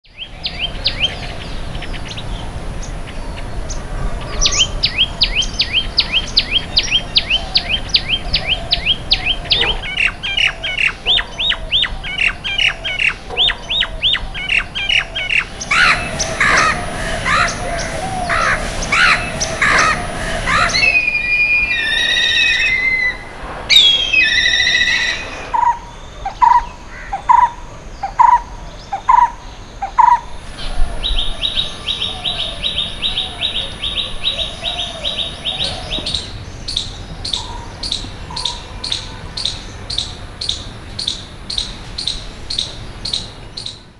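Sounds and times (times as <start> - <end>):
wild birds calling: 0.1 - 43.9.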